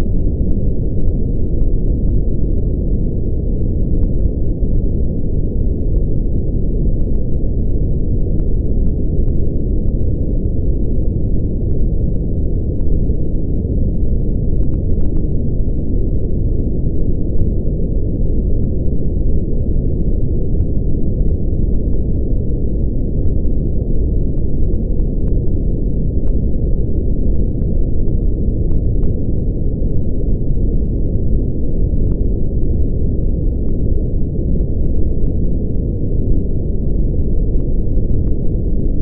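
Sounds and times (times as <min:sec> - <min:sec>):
deep rumbling brown noise: 0:00.0 - 0:39.0.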